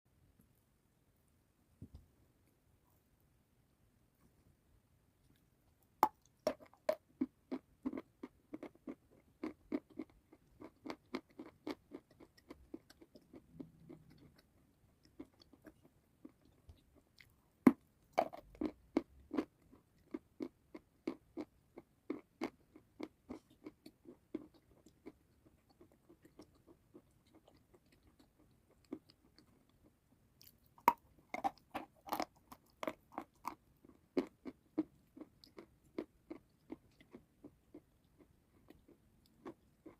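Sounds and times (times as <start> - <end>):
chewing crunchy food: 6.0 - 39.9.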